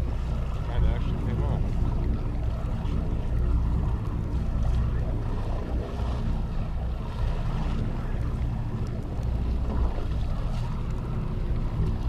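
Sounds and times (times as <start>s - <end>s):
boat engine humming: 0.0s - 12.0s
sea wash: 0.0s - 12.0s
wind on microphone: 0.0s - 12.0s.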